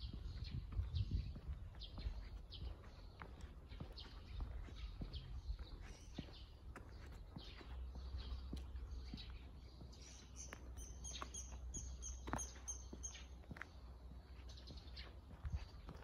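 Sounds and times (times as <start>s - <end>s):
small bird chirping: 0.0s - 15.9s
footsteps on paved path: 0.0s - 16.0s.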